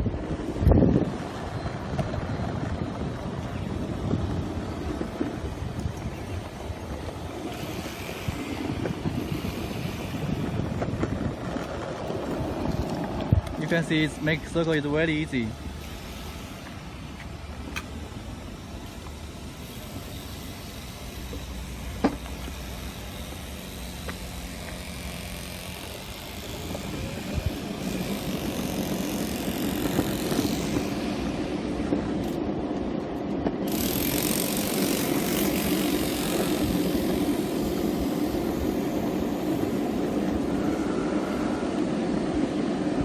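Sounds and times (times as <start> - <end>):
skateboard wheels rolling on pavement: 0.0 - 43.0.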